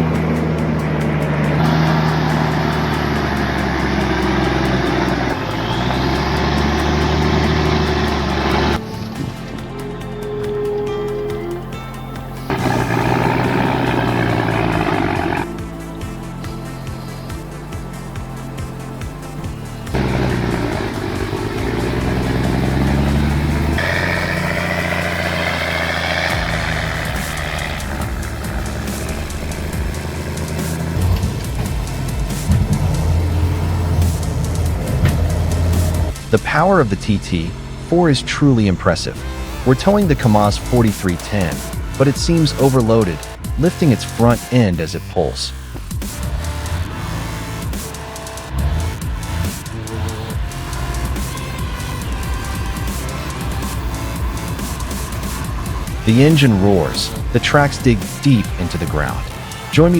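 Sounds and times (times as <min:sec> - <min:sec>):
diesel engine running: 0:00.0 - 0:10.2, 0:11.6 - 0:59.9.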